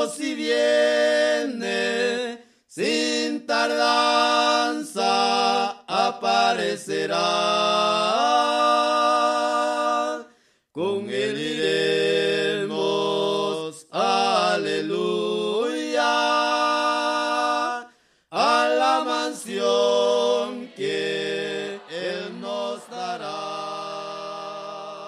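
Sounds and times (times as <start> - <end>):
hymn sung a cappella: 0.0 - 25.0.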